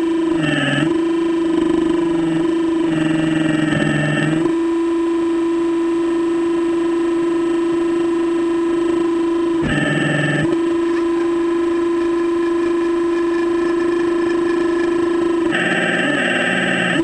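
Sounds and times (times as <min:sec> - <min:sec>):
steady mechanical whine: 0:00.0 - 0:17.0.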